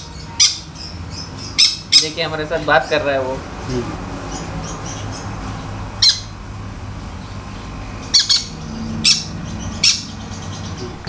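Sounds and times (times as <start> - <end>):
parrots squawking: 0.0 - 6.5, 7.1 - 11.0.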